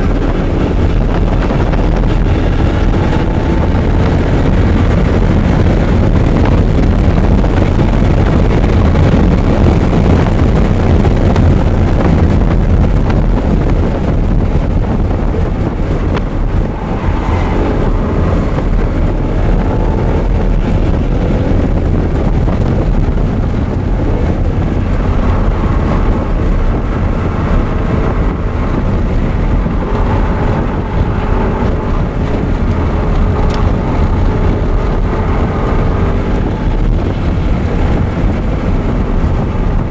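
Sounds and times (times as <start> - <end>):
car engine running hard: 0.0 - 39.9
road rumble: 0.0 - 39.9
wind buffeting microphone: 0.0 - 39.9.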